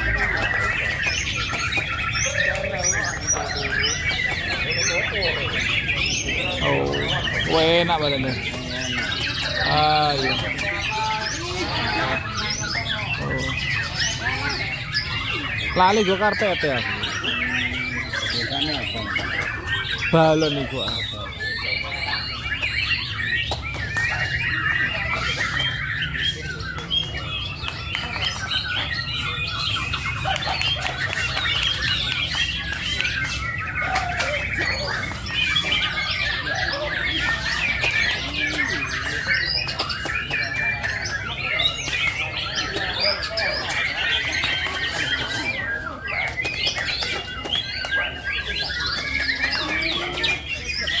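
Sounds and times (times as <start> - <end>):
songbird harsh chirps: 0.0 - 51.0.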